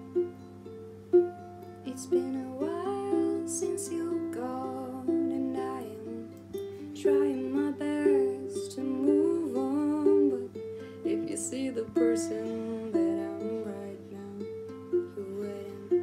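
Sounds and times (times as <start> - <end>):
ukulele playing: 0.0 - 16.0
woman singing: 1.8 - 16.0.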